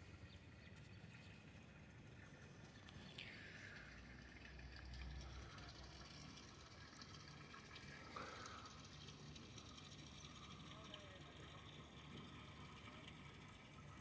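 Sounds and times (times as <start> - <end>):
faint water lapping: 0.0 - 14.0.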